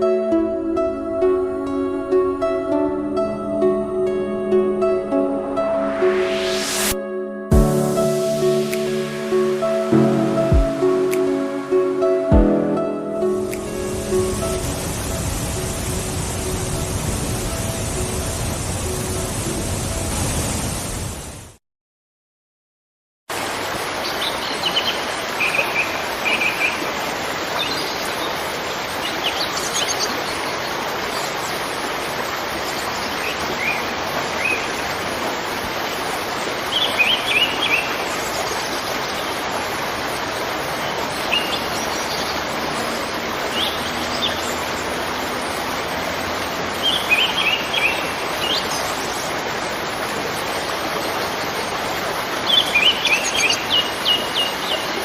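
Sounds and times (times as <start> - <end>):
waterfall rushing: 0.0 - 21.6, 23.3 - 55.0.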